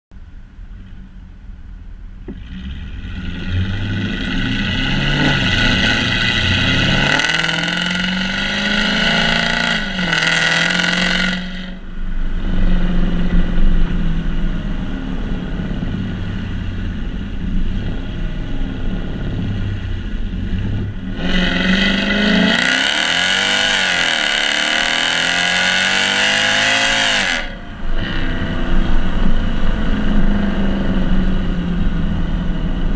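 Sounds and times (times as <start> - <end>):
car exhaust revving through upshift: 2.2 - 32.9.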